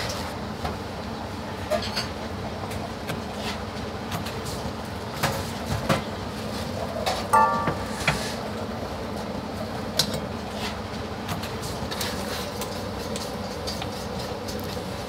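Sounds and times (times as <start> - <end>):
restaurant kitchen hum: 0.0 - 15.0.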